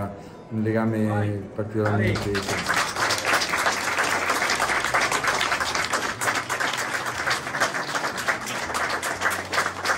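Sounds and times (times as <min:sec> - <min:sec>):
people applauding: 0:01.8 - 0:09.9.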